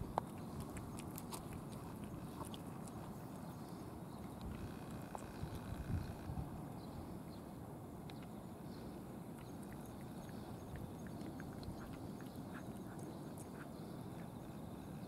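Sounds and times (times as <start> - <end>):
cats chewing food: 0.0 - 5.9, 8.1 - 15.0
low outdoor rumble: 0.0 - 15.0.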